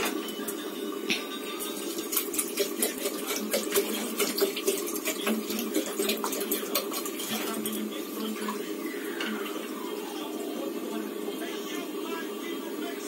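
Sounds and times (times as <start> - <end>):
water pouring into pot: 1.6 - 12.1.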